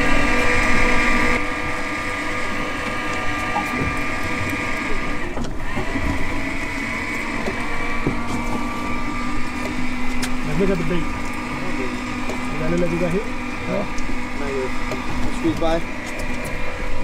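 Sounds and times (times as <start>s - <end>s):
electric fishing reel whining: 0.0s - 17.0s.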